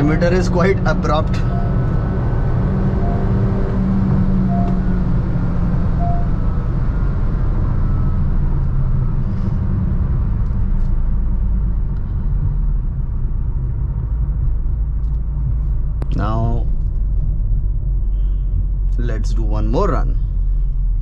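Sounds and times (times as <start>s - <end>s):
car engine slowing down: 0.0s - 19.1s
road and tyre rumble: 0.0s - 21.0s.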